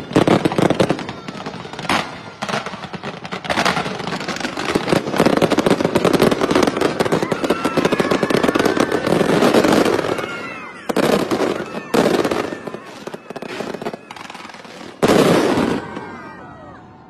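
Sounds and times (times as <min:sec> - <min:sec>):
fireworks crackling: 0:00.0 - 0:16.8
fireworks bangs: 0:00.0 - 0:17.0.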